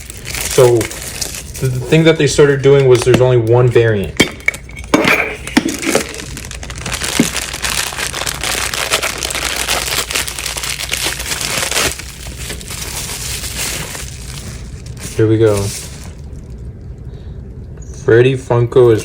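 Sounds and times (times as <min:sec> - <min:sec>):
packaging crinkling and rustling: 0:00.0 - 0:16.7.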